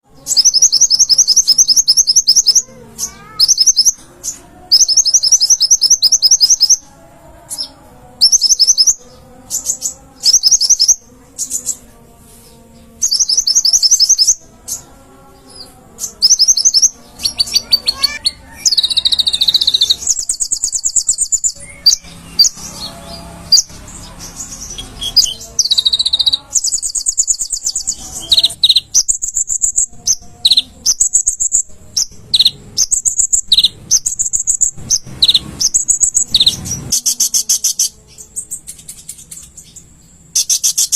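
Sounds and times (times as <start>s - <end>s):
sunbird singing trills: 0.2s - 11.9s, 12.8s - 40.9s.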